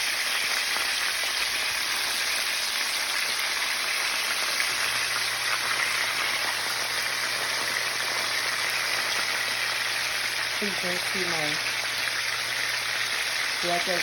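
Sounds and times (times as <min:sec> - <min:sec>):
fish frying in hot oil: 0:00.0 - 0:14.0.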